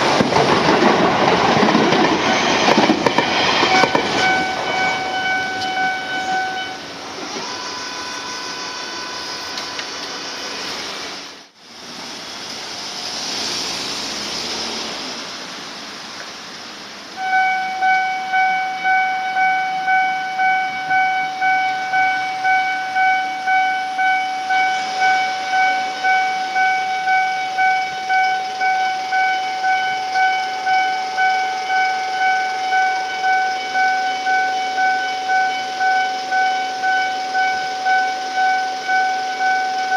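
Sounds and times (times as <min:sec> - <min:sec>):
passing train noise: 0:00.0 - 0:39.9
level-crossing electronic alarm: 0:00.8 - 0:10.1, 0:17.2 - 0:39.9.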